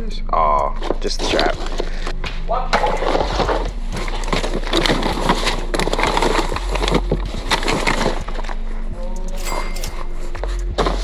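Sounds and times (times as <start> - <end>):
rummaging in plastic bin: 0.8 - 8.8, 10.0 - 11.0.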